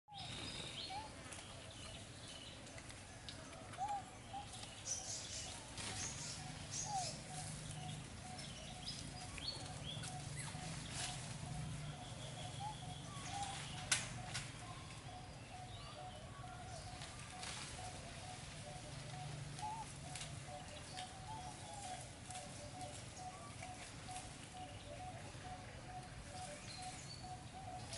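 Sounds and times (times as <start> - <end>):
birds calling: 0.1 - 27.9
rustles: 0.1 - 27.9.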